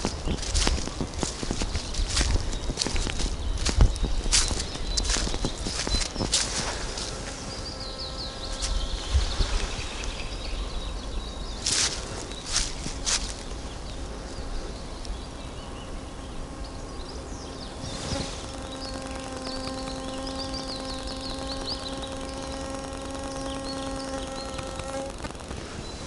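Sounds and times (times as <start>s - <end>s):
flying insect buzzing: 0.0s - 26.0s
small songbirds chirping: 0.0s - 26.0s.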